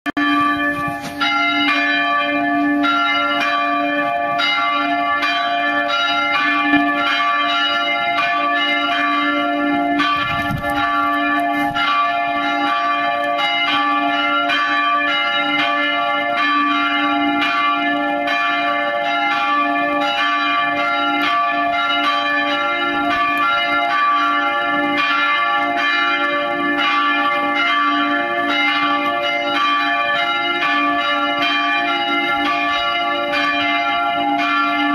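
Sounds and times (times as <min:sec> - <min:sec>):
church bells ringing: 0:00.1 - 0:34.9.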